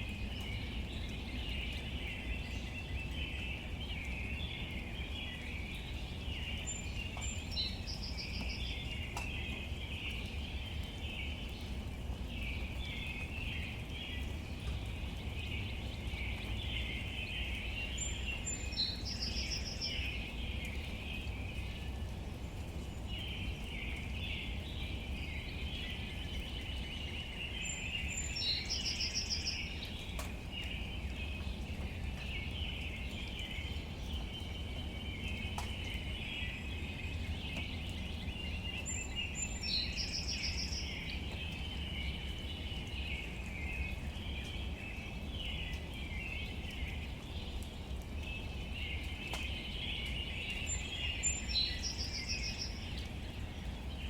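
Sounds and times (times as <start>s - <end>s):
chorus of chirping birds: 0.0s - 54.0s
songbird song with trill: 0.0s - 54.0s.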